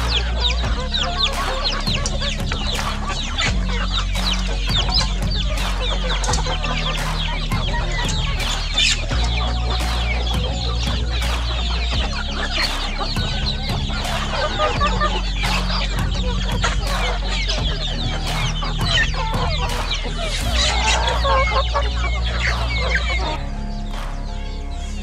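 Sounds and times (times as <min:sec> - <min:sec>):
chickens clucking: 0:00.0 - 0:25.0
chicks peeping: 0:00.0 - 0:25.0.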